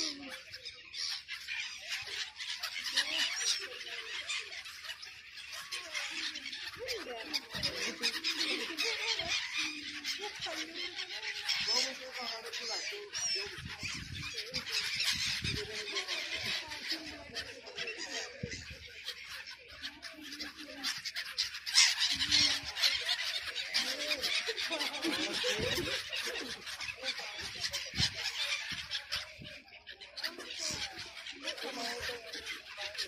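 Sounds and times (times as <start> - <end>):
sea birds squawking: 0.0 - 33.0.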